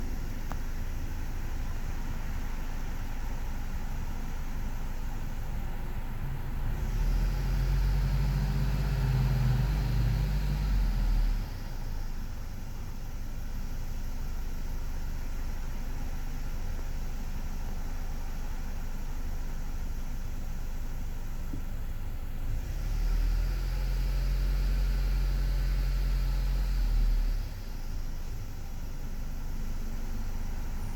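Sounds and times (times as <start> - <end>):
car engine hum: 0.0 - 30.9.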